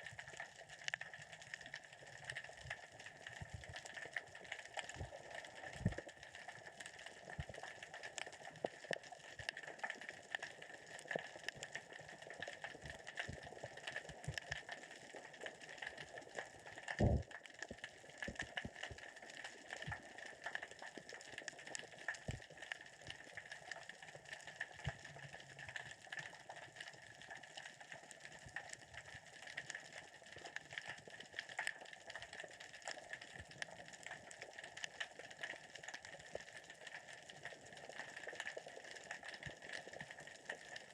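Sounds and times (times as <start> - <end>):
underwater crackling clicks: 0.1 - 40.9.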